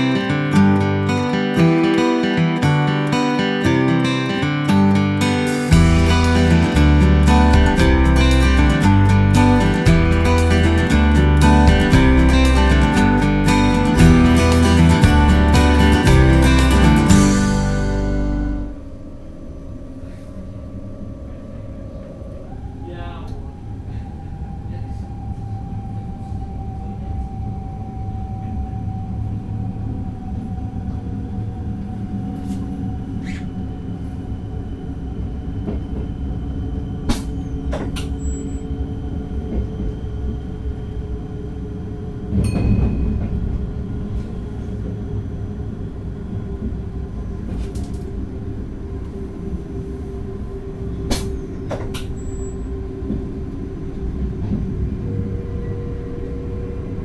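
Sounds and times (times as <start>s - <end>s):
train rumble with faint whine: 4.7s - 57.0s.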